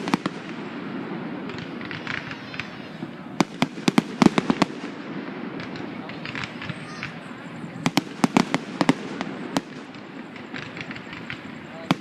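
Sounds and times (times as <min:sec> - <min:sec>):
fireworks crackling: 0:00.0 - 0:12.0
fireworks sharp bangs: 0:00.0 - 0:12.0.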